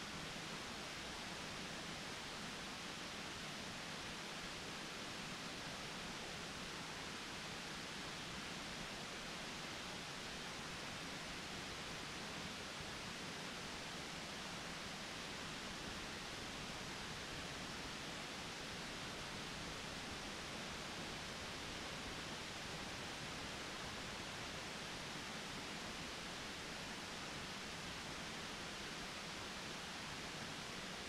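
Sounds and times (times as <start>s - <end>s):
faint hiss: 0.0s - 31.0s.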